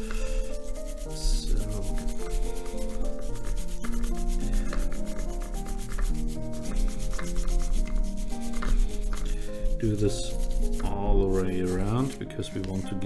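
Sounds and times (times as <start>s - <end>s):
background music: 0.0s - 13.0s
toothbrush scrubbing: 0.0s - 13.0s.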